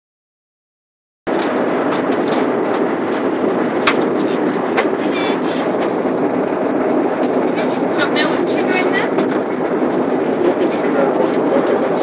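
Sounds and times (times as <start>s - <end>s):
airliner cabin engine and airflow noise: 1.3s - 12.0s.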